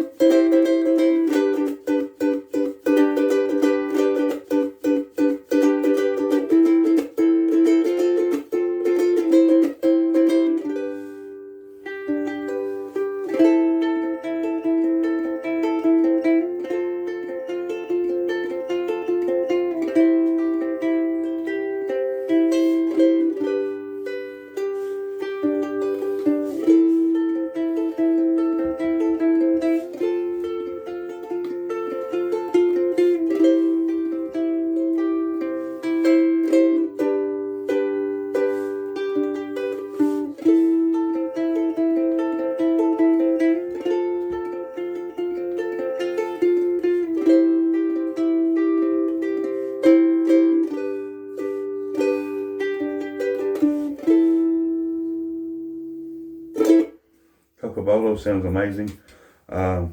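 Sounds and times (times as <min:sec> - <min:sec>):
ukulele picked melody: 0:00.0 - 0:59.8
ukulele strummed chords: 0:00.0 - 0:59.8.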